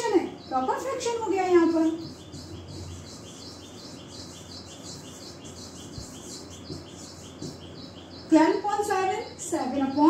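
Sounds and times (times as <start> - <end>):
bird chirping: 0.0 - 10.0.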